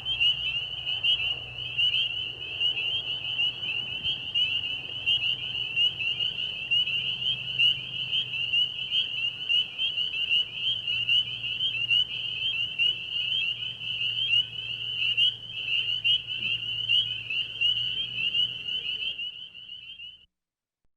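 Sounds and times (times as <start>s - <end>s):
crickets chirping: 0.0s - 20.2s.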